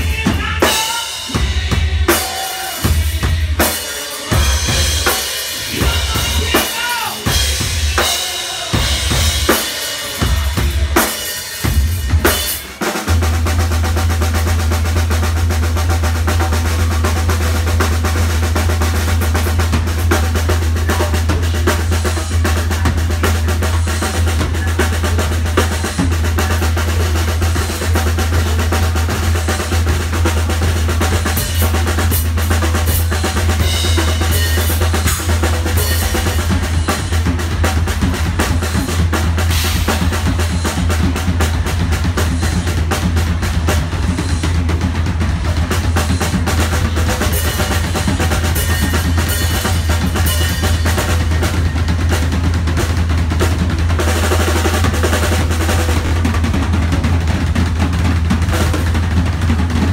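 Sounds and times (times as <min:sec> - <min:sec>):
drum kit played fast: 0:00.0 - 0:59.9.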